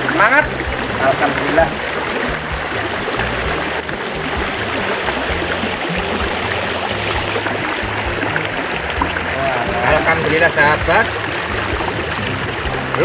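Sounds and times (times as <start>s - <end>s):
river flowing over rocks: 0.0s - 13.0s.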